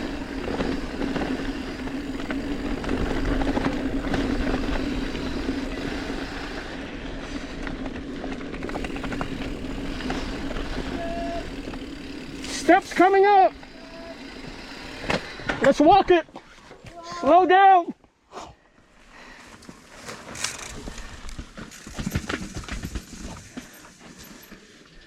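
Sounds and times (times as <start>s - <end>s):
bike tyres on gravel: 0.0s - 17.4s, 19.1s - 24.8s.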